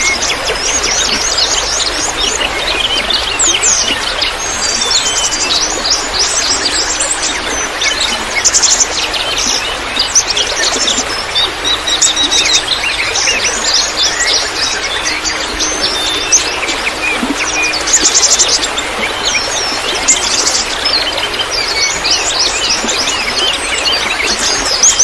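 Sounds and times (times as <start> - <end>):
running water trickling: 0.0 - 25.0
songbirds chirping and trilling: 0.0 - 25.0.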